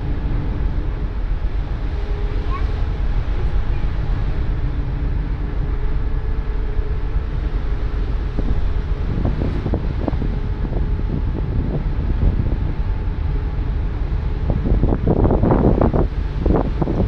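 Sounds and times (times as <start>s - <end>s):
low ship rumble: 0.0s - 17.0s
wind buffeting microphone: 0.0s - 17.0s.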